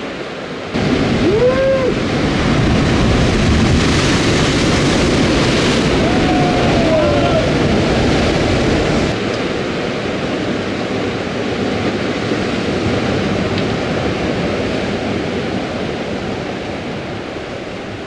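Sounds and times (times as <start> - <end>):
waves breaking on rocks: 0.0 - 18.0
wind on microphone: 0.0 - 18.0.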